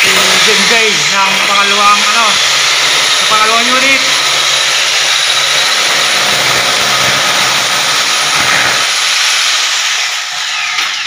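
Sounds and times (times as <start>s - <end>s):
power drill boring through wall: 0.0s - 11.0s.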